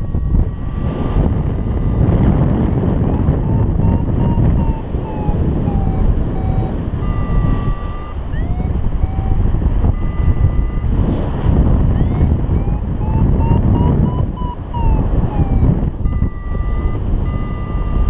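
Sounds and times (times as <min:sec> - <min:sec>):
variometer beeping: 0:00.0 - 0:18.0
wind rush on microphone: 0:00.0 - 0:18.0.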